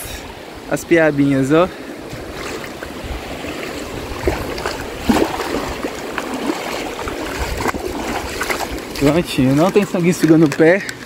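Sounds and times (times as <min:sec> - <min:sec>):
shallow stream running: 0:00.0 - 0:11.0
footsteps splashing in water: 0:02.1 - 0:11.0.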